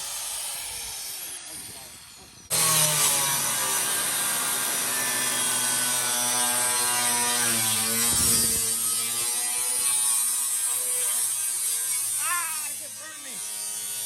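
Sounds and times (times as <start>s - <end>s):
angle grinder cutting sheet metal: 2.4s - 14.0s.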